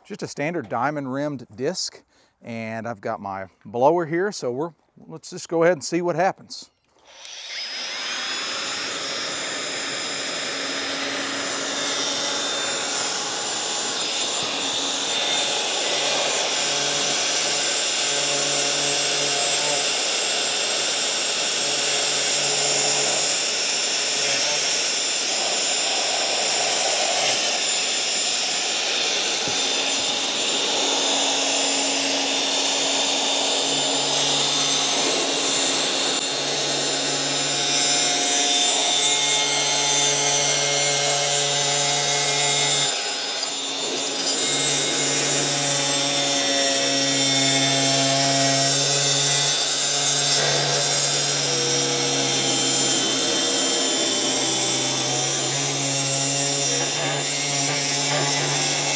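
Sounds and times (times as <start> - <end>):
angle grinder cutting stone: 7.0 - 58.9
blower running: 7.0 - 58.9.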